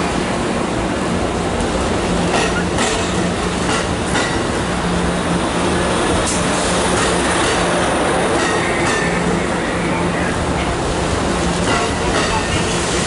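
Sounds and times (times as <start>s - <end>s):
train cars rumbling on track: 0.0s - 13.0s.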